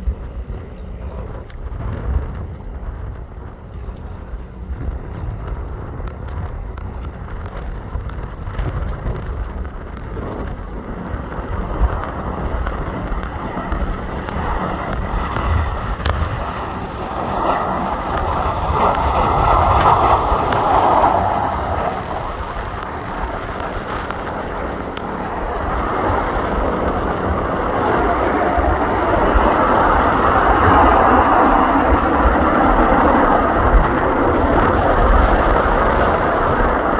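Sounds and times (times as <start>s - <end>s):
jet engines rushing: 0.0s - 36.9s
wind buffeting microphone: 0.0s - 36.9s.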